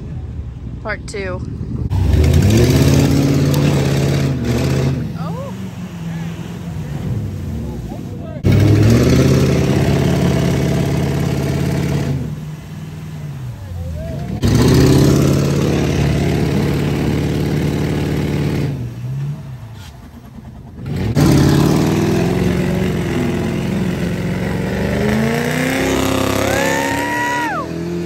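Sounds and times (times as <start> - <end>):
truck engines revving hard: 0.0 - 28.0.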